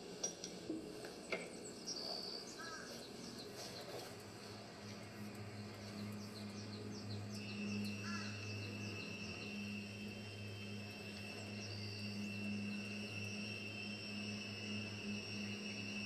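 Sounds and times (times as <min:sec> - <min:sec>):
low steady hum: 0:00.0 - 0:16.0
high insect buzz: 0:01.9 - 0:16.0.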